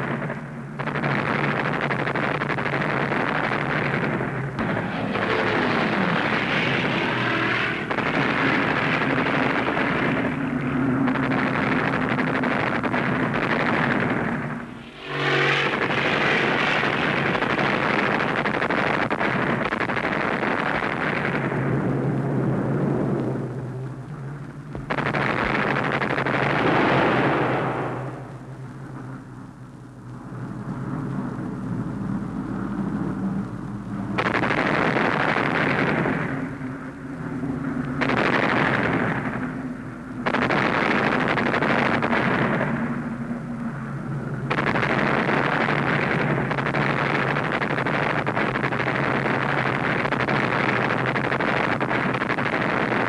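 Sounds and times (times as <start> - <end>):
cannon and machine-gun fire: 0.0 - 23.4, 24.7 - 28.5, 34.1 - 43.4, 44.4 - 53.0
explosions: 0.0 - 29.3, 34.0 - 53.0
aircraft engine drone: 0.0 - 53.0.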